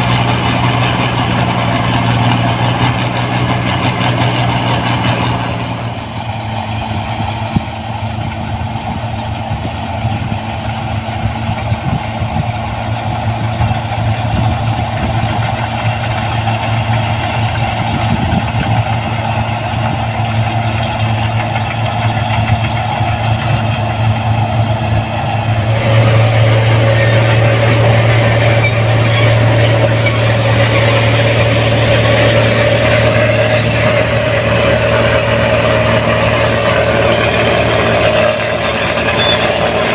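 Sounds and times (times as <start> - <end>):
diesel engine running: 0.0 - 39.9
high-pitched whine: 4.6 - 39.9.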